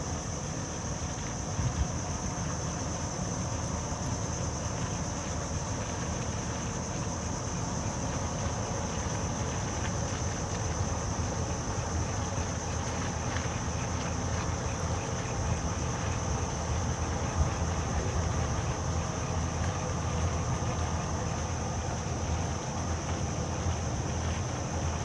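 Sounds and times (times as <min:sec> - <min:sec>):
boat engine low rumble: 0:00.0 - 0:25.0.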